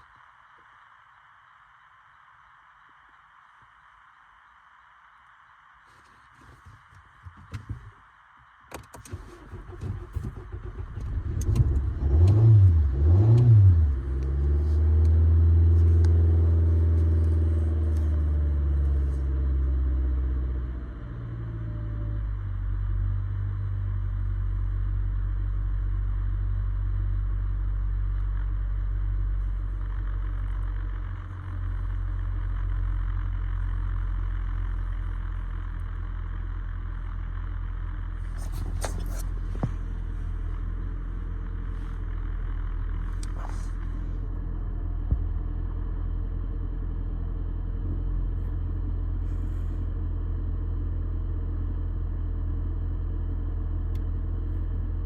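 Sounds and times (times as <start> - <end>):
car engine cranking and idling: 5.2 - 55.0.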